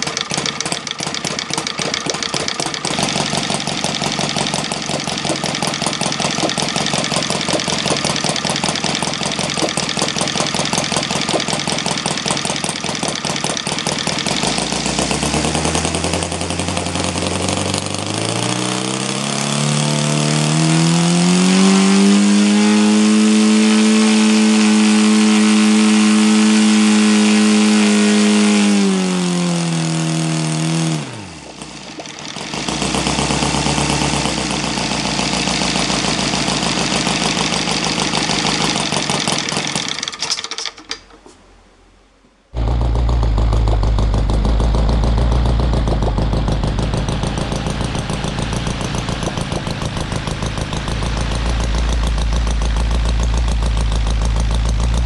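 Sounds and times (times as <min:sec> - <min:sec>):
model engine with propeller: 0:00.0 - 0:41.3, 0:42.6 - 0:55.0.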